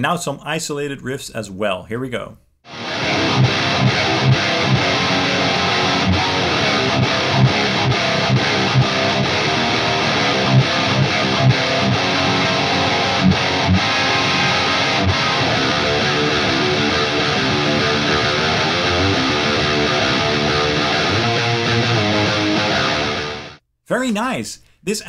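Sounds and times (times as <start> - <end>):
distorted electric guitar riffs: 2.7 - 23.6.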